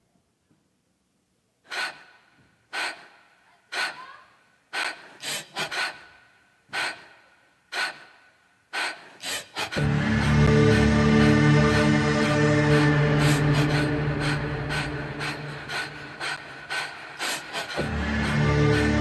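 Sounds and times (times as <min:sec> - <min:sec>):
person gasping for air: 0:01.7 - 0:08.2, 0:08.8 - 0:19.0.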